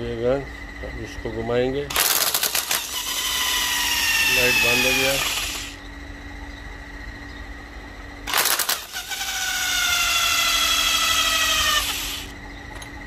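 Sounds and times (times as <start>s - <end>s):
alternator spinning high whine: 0.0s - 13.0s.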